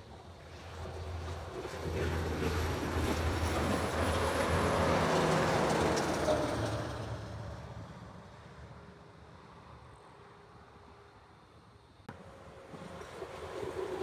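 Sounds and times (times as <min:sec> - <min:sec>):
trucks passing: 0:00.0 - 0:14.0.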